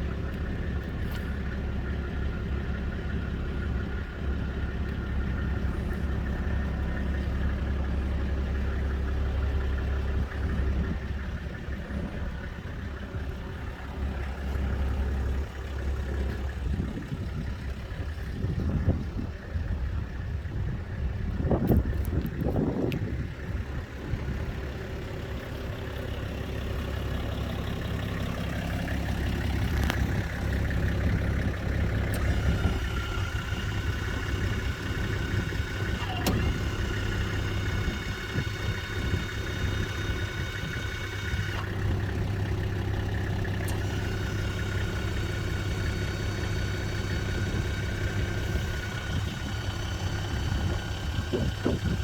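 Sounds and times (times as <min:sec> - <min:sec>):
truck engine idling: 0:00.0 - 0:52.0.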